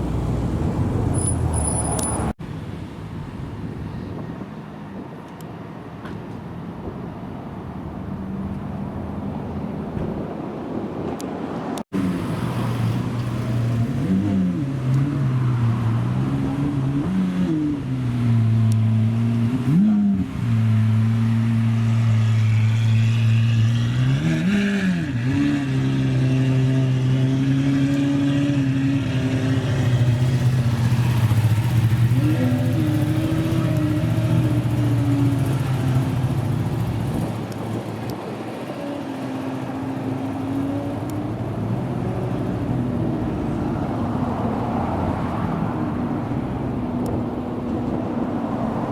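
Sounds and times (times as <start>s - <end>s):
car engine idling and revving: 0.0s - 2.4s, 11.8s - 48.9s.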